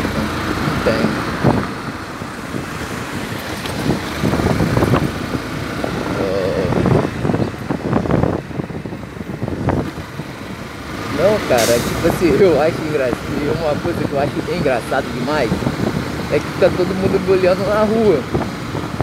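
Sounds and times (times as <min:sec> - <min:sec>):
motorcycle engine: 0:00.0 - 0:19.0
road noise: 0:00.0 - 0:19.0
wind buffeting microphone: 0:00.0 - 0:19.0.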